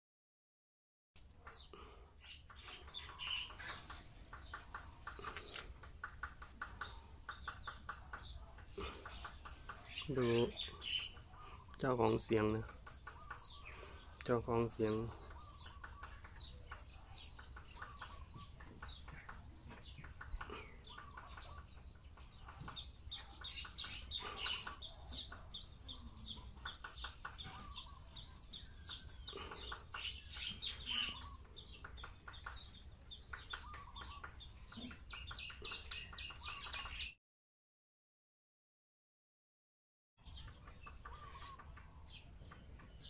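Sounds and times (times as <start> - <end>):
small birds chirping: 1.2 - 37.2, 40.2 - 43.0
woodpecker hammering on tree: 2.2 - 37.1, 40.2 - 43.0.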